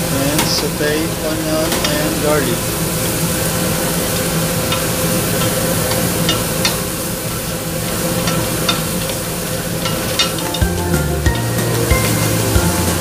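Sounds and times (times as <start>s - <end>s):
onion sizzling in butter: 0.1s - 13.0s.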